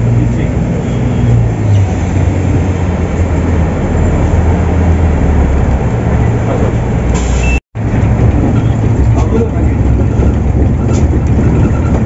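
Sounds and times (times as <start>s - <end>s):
bus engine drone: 0.0s - 12.0s
road and tyre noise: 0.0s - 12.0s.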